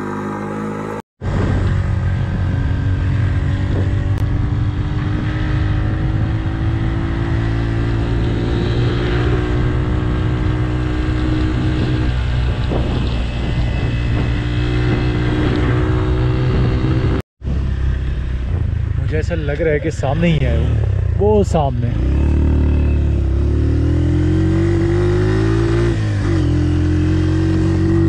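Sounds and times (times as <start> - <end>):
wind and road noise: 0.0 - 28.0.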